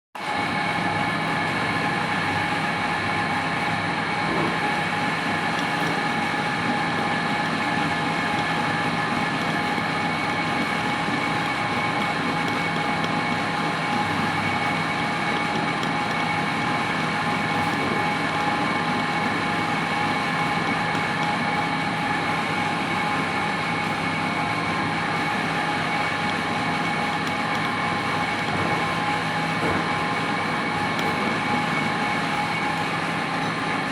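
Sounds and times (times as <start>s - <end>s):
metal lathe running: 0.3s - 33.9s.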